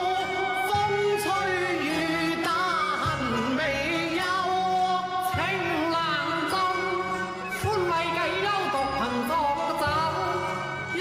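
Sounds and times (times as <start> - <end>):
instrumental accompaniment: 0.0 - 11.0
opera duet singing: 0.0 - 11.0.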